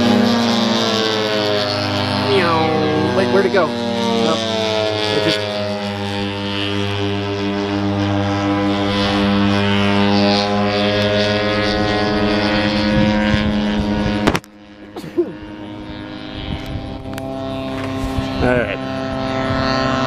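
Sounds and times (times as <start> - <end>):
quieter engine drone: 0.0 - 20.0
small engine running: 0.0 - 20.0.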